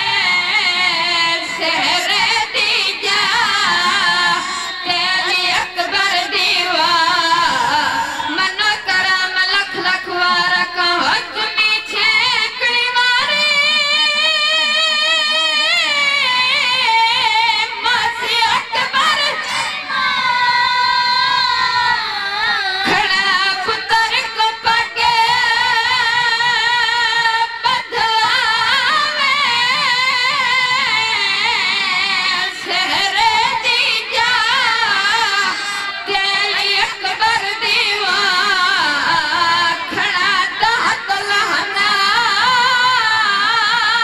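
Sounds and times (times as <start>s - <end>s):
boy chanting into a microphone: 0.0s - 44.0s.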